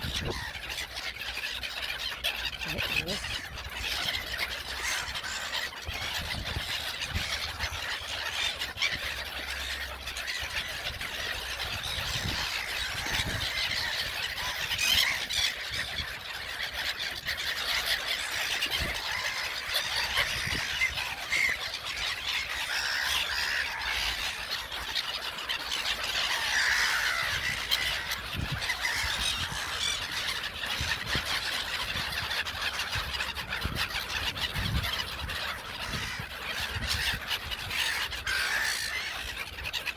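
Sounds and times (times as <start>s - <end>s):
gulls calling: 0.0s - 39.9s.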